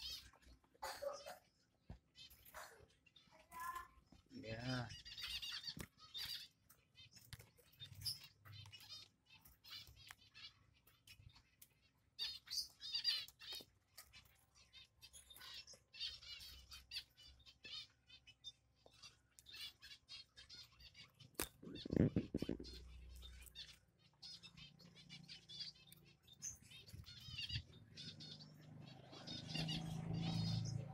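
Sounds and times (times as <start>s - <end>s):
nestlings begging chirps: 0.0s - 30.9s.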